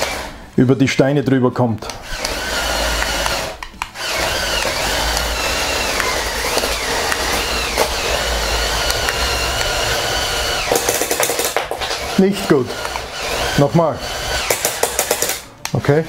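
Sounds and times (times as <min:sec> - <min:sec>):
electric motor whining: 0:00.0 - 0:00.4, 0:01.9 - 0:10.9, 0:11.8 - 0:16.0.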